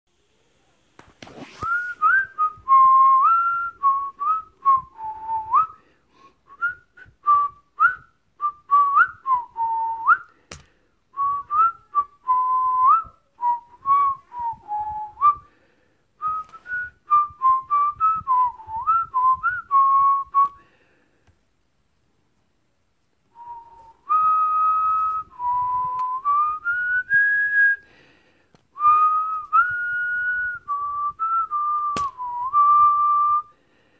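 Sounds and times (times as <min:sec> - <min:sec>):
person whistling a tune: 0:01.6 - 0:10.4, 0:11.1 - 0:15.6, 0:16.2 - 0:20.7, 0:23.3 - 0:28.1, 0:28.8 - 0:33.6.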